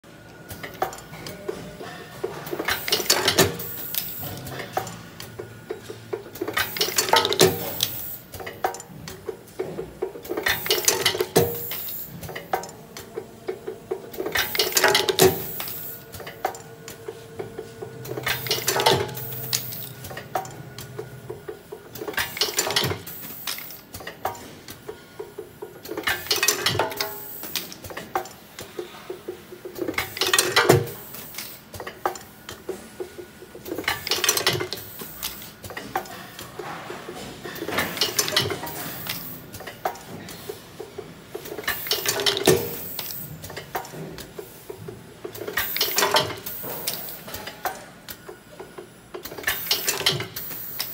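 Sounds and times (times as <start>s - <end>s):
machine clattering bursts: 2.2s - 36.7s, 37.4s - 48.2s, 49.1s - 50.9s
rapid clicking of parts: 2.2s - 50.9s.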